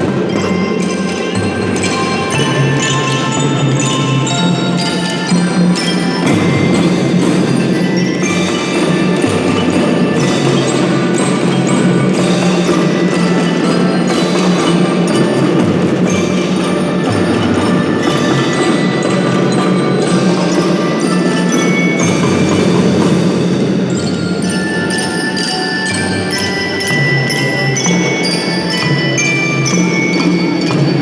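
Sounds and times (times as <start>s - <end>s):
clicking percussion: 0.0s - 31.0s
mallet percussion melody: 0.0s - 31.0s
steady drumming: 0.0s - 31.0s.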